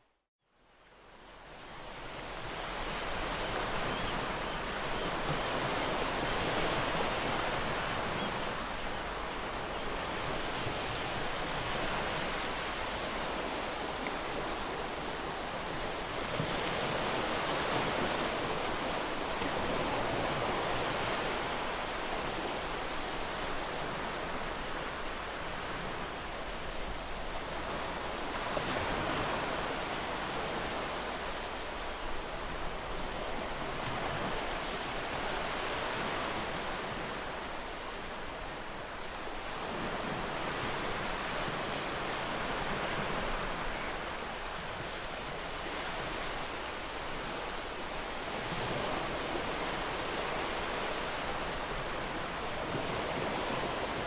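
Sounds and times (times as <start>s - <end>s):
ocean surf breaking on shore: 1.9s - 54.0s.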